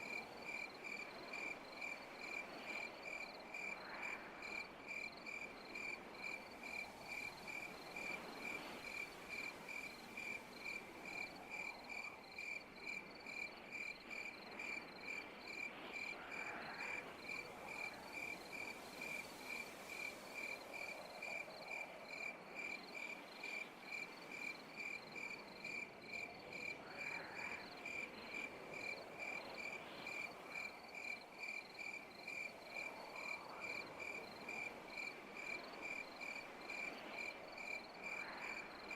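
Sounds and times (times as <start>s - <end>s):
faint hiss of insects: 0.0s - 38.9s.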